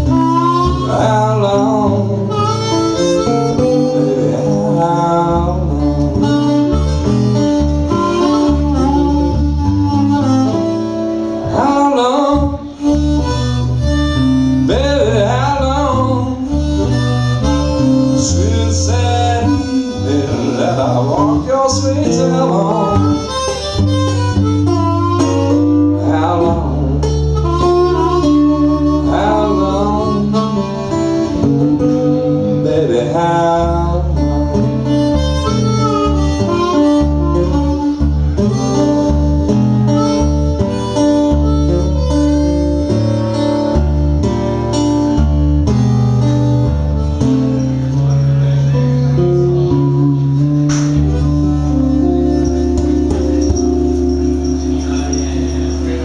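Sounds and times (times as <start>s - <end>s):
acoustic guitar strumming: 0.0s - 56.0s
blues harmonica solo: 0.0s - 56.0s.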